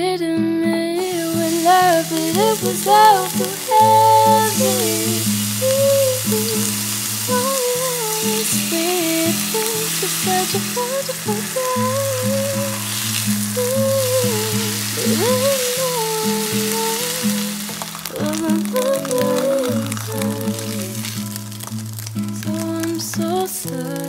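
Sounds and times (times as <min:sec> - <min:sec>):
meat sizzling in hot oil: 0:01.0 - 0:24.0.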